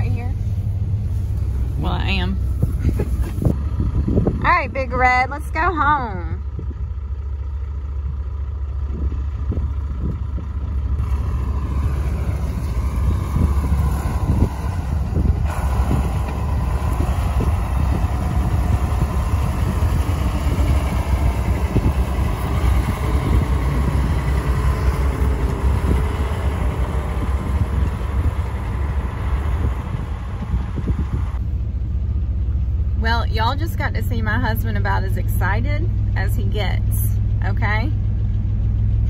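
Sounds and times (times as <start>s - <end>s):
hum inside vehicle cab: 0.0s - 39.0s
truck engine rumbling: 0.0s - 39.0s.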